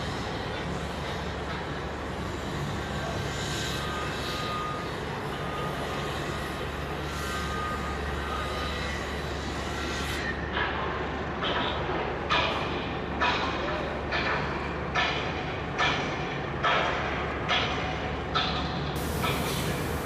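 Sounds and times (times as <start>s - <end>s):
machinery hum and hiss: 0.0s - 20.0s.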